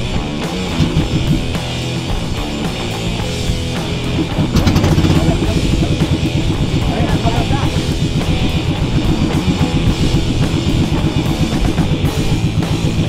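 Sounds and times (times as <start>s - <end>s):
rock music with drums and guitar: 0.0s - 13.0s.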